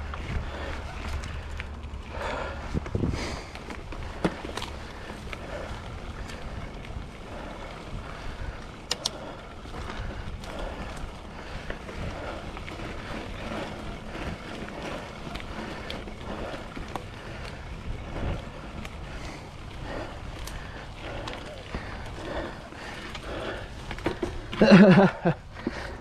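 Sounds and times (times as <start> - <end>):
wind rumble on microphone: 0.0 - 24.0
bike clicking and rattling: 0.0 - 26.0
bike tyres on dirt: 0.0 - 26.0.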